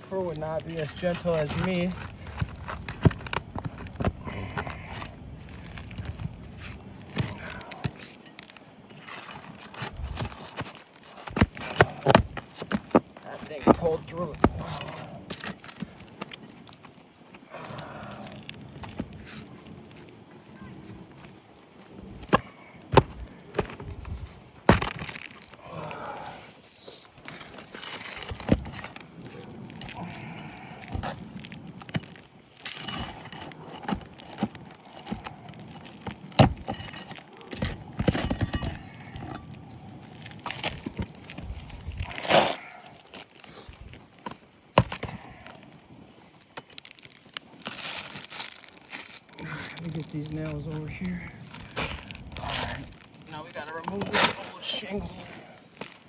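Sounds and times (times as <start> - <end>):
pry bar scraping under shingles: 0.0 - 56.0.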